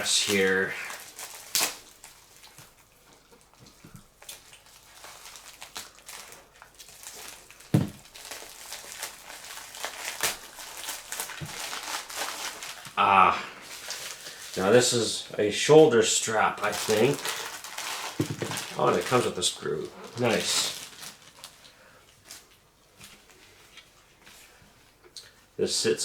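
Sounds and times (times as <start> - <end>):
packaging crinkling and rustling: 0.0 - 24.4.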